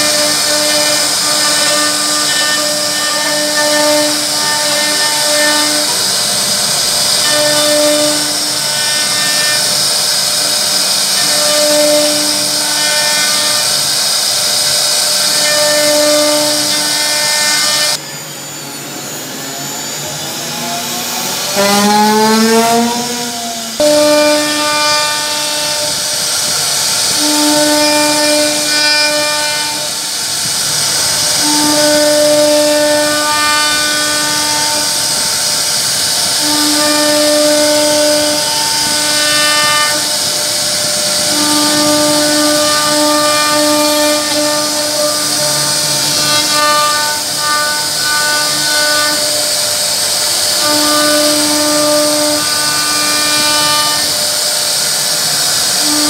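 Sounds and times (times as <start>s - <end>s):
machine whine: 0.0s - 56.0s
router cutting wood hiss: 0.0s - 56.0s.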